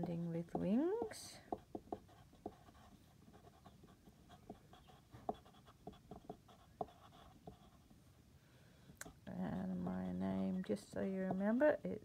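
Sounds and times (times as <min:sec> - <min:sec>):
pencil scratching on paper: 0:00.0 - 0:07.9, 0:09.6 - 0:11.7.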